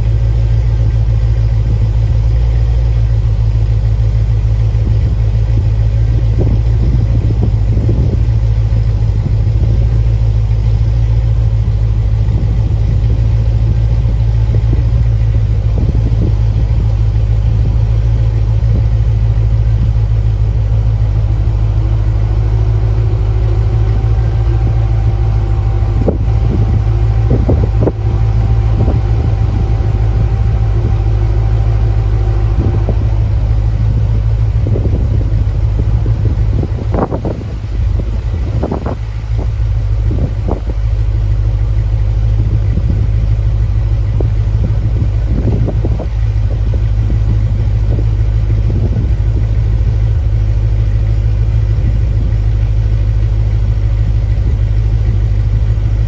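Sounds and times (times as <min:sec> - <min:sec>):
car exhaust drone: 0:00.0 - 0:56.0
faint higher whine: 0:00.0 - 0:56.0.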